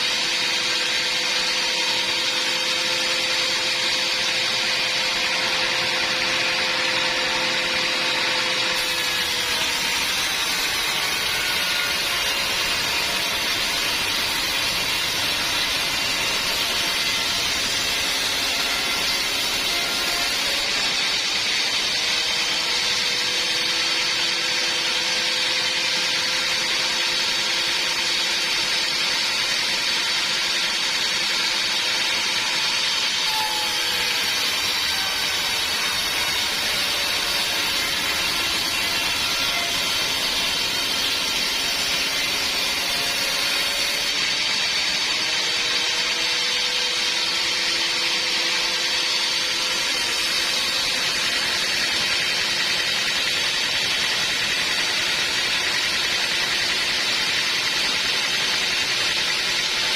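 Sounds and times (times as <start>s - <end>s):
band saw machinery running: 0.0s - 59.9s.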